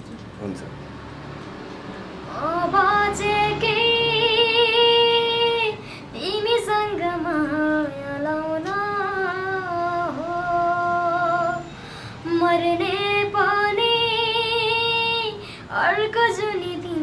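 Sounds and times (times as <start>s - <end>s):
boy singing unaccompanied: 2.3s - 11.6s, 12.2s - 17.0s.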